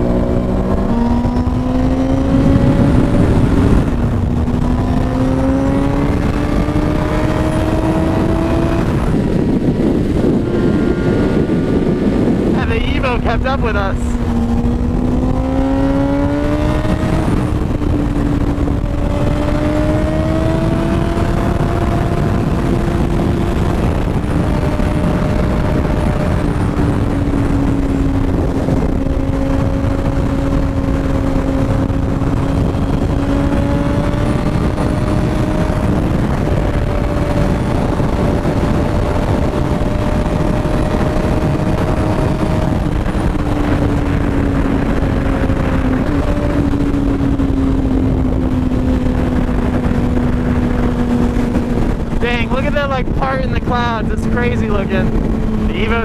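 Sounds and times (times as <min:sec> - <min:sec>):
heavy wind rush: 0:00.0 - 0:56.0
motorcycle engine cruising: 0:00.0 - 0:56.0.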